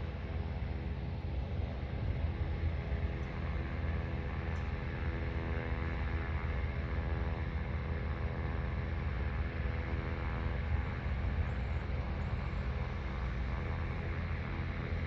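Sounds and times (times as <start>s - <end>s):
engine hum: 0.0s - 15.0s
wind rumbling on microphone: 0.0s - 15.0s.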